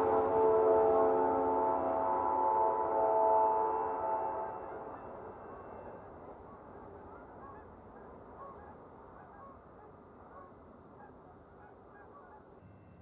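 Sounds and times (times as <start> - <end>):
geese honking: 0.0 - 12.6.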